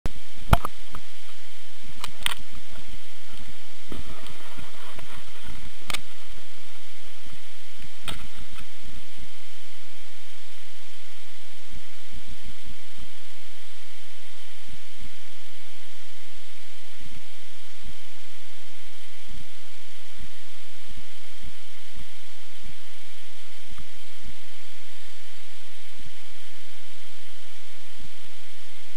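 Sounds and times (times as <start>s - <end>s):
steady hiss: 0.1s - 28.9s.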